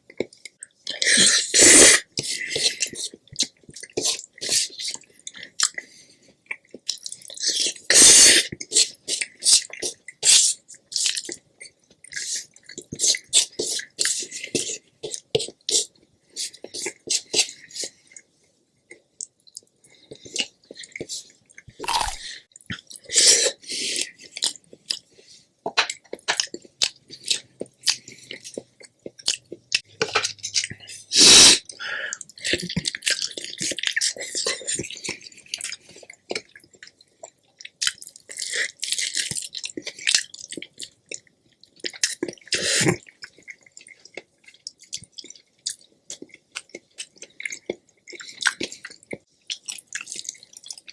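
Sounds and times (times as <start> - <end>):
wet chewing mouth sounds: 0.1 - 18.3, 18.9 - 50.9.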